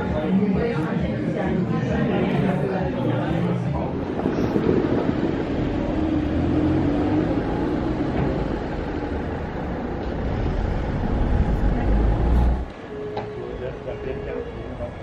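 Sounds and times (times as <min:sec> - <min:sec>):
outdoor rumble and hiss: 0:00.1 - 0:15.0.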